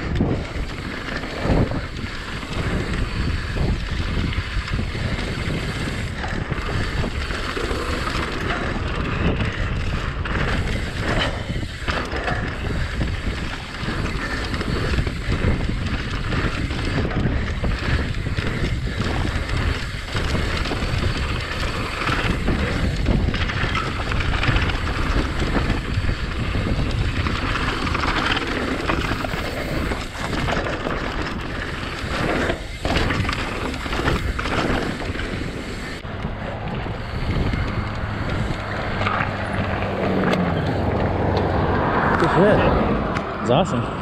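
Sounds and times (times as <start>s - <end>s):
mountain bike trail rattling: 0.0s - 44.0s
wind on microphone: 0.0s - 44.0s.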